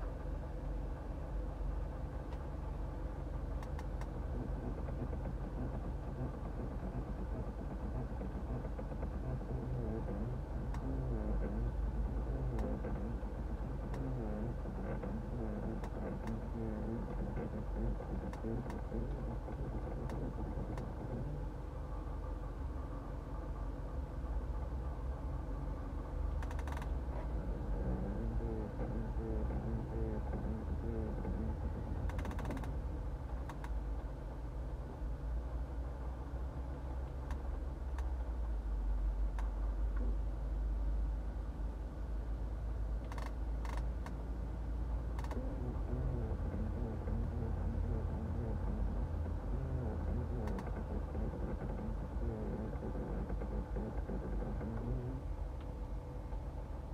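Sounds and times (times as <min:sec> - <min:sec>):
engine and ventilation fan hum: 0:00.0 - 0:56.9.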